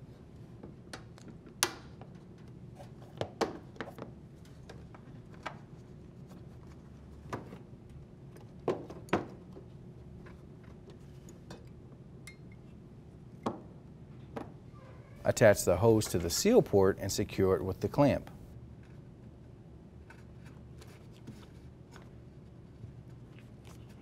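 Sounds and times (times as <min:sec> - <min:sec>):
low steady hum: 0:04.1 - 0:24.0.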